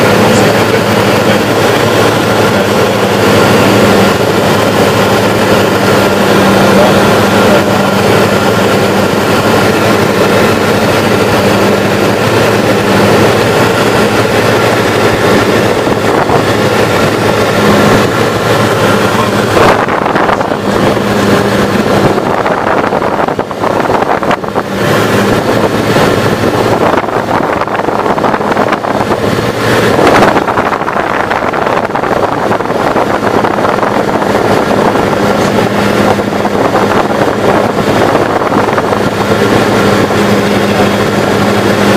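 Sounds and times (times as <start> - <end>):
propeller aeroplane engine drone: 0.0 - 41.9
rushing noise: 0.0 - 41.9.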